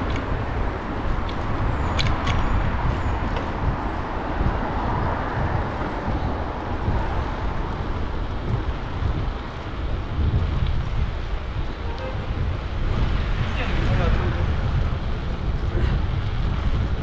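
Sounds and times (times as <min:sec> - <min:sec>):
steady rumbling: 0:00.0 - 0:17.0
wind buffeting microphone: 0:00.0 - 0:17.0.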